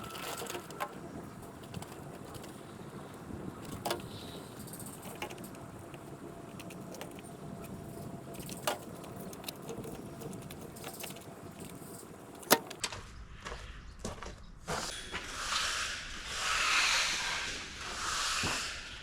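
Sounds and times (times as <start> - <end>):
work site background noise: 0.0 - 19.0.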